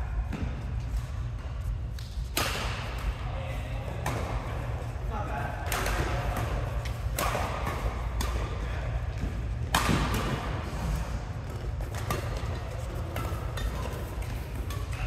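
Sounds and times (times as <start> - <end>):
steady low hum: 0.0 - 15.0
racquets hitting shuttlecock: 0.3 - 3.2, 5.6 - 15.0.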